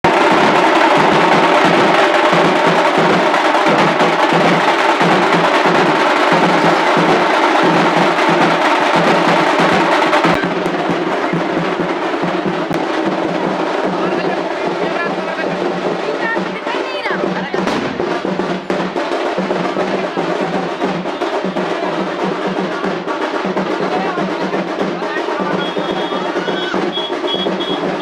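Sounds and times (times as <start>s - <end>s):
music with fast drumming: 0.0s - 28.0s.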